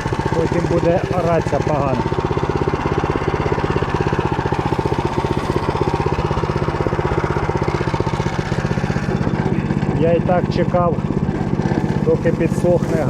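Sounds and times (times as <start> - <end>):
tiller engine running under load: 0.0 - 13.0.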